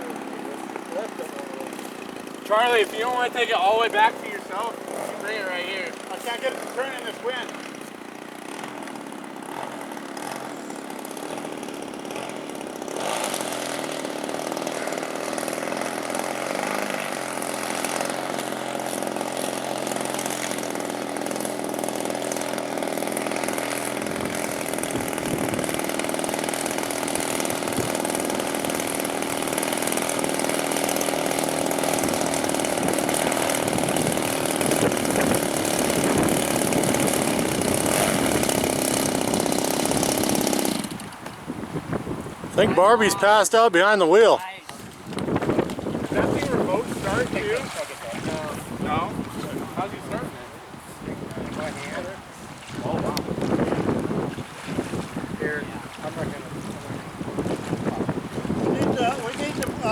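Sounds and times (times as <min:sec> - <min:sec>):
model airplane engine buzzing: 0:00.0 - 0:59.9.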